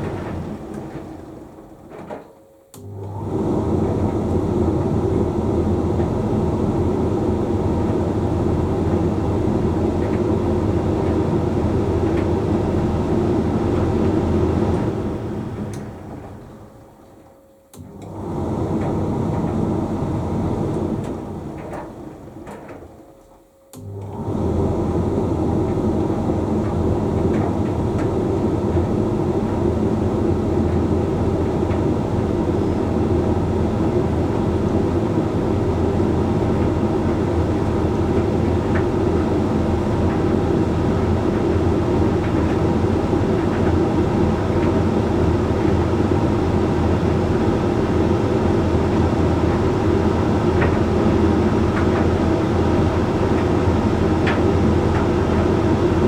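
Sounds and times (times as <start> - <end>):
tumble dryer drum hum and rumble: 0.0 - 56.0.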